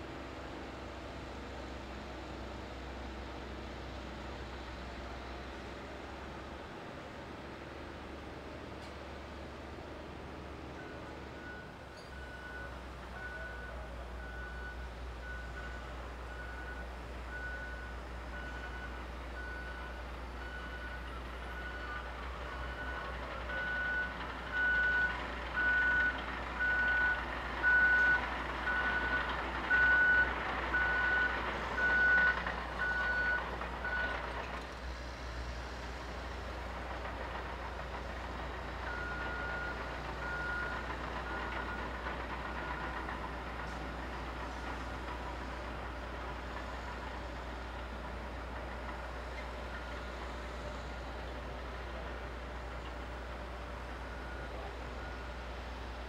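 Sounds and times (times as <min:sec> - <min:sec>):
diesel engine running low: 0:00.0 - 0:56.0.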